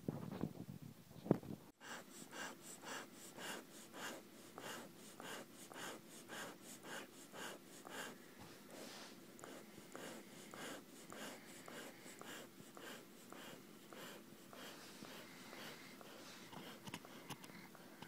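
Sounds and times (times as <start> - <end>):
dog breathing: 1.8 - 18.0.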